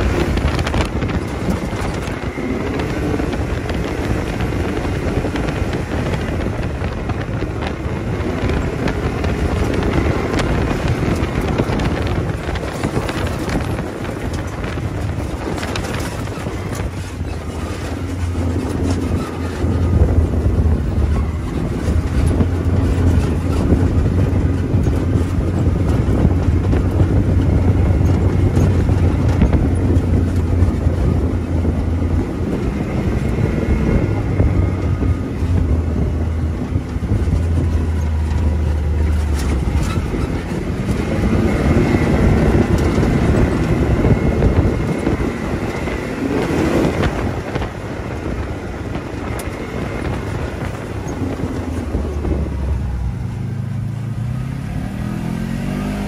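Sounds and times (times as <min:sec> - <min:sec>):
utv engine running: 0:00.0 - 0:56.0.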